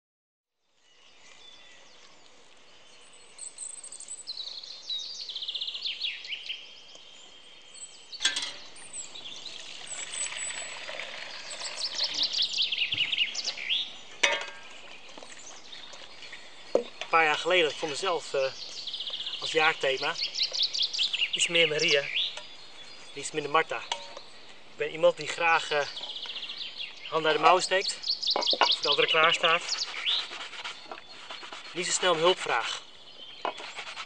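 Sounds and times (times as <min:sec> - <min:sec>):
songbirds singing trills: 0:00.6 - 0:34.0.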